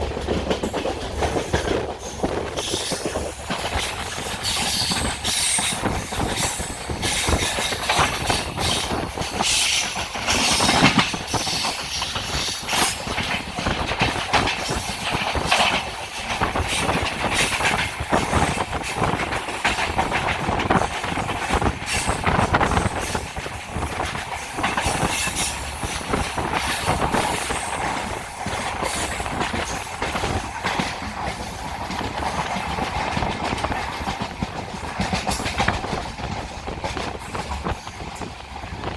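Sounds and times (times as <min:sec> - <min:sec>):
train rumble and rattle: 0:00.0 - 0:38.9
train wheels clicking on rails: 0:00.0 - 0:38.9.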